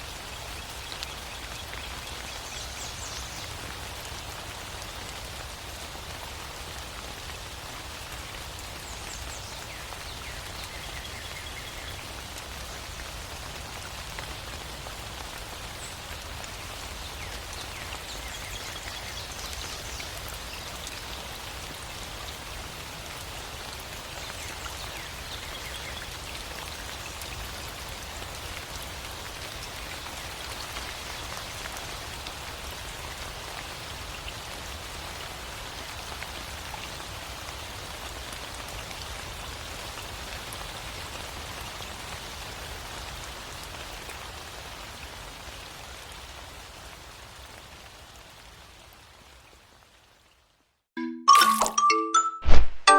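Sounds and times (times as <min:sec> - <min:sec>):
rain pattering on surfaces: 0:00.0 - 0:50.9.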